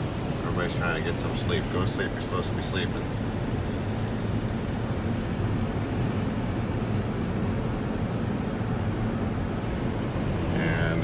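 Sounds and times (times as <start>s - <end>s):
car engine and tyres droning: 0.0s - 11.0s.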